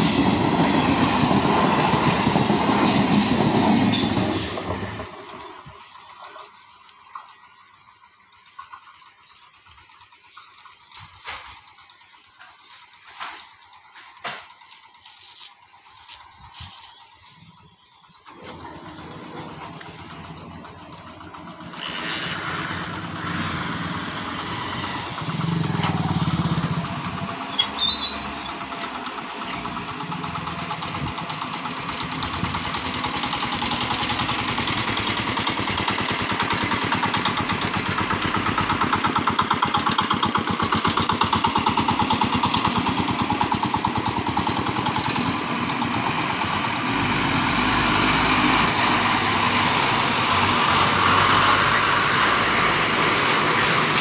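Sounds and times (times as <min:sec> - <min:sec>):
diesel truck engine throbbing: 0:00.0 - 0:54.0.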